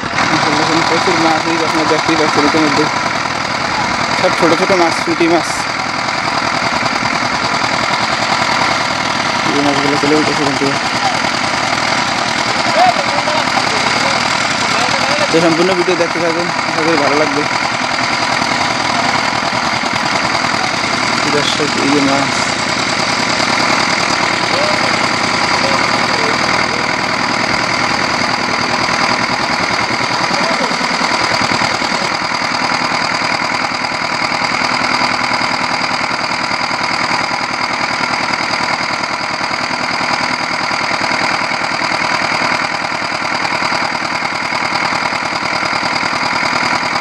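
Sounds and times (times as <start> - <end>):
water pump engine running: 0.0 - 47.0.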